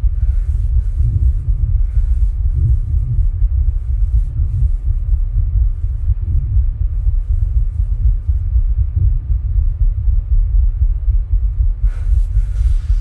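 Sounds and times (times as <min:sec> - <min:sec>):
low rumble of heart sounds: 0:00.0 - 0:13.0.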